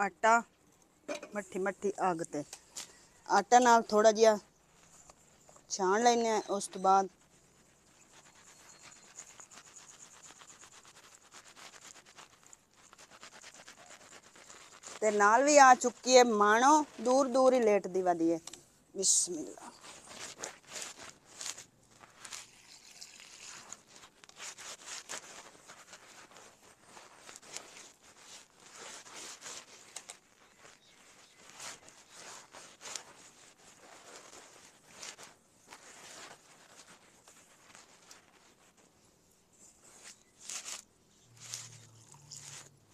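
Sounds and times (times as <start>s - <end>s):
hands kneading dough in a bowl: 1.3s - 42.9s.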